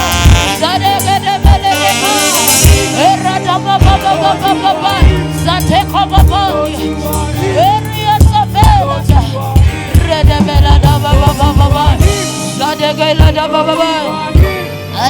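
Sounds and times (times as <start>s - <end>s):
gospel band playing: 0.0s - 15.0s.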